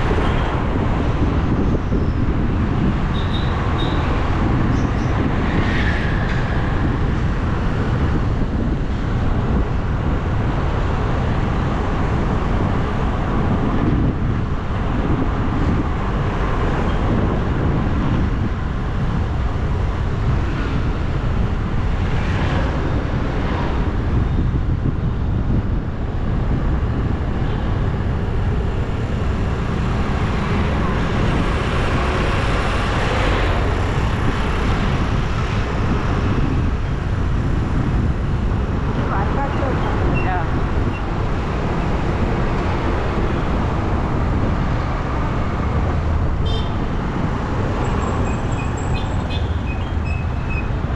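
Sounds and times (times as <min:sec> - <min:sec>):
bike road noise: 0:00.0 - 0:50.9
wind rush: 0:00.0 - 0:50.9.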